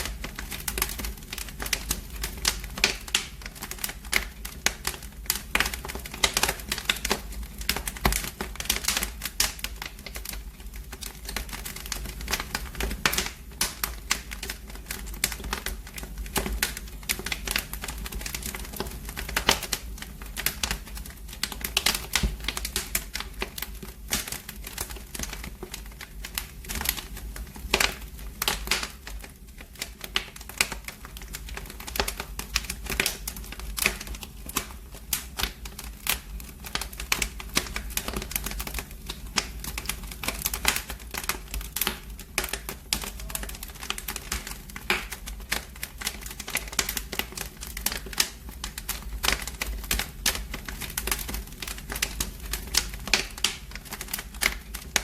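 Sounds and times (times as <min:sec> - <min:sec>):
fireplace fire crackling: 0:00.0 - 0:55.0.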